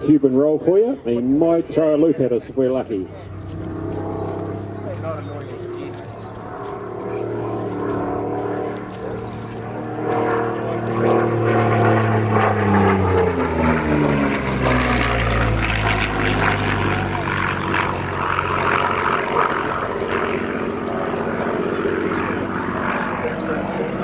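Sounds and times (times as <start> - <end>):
propeller plane engine passing: 0.0 - 24.0.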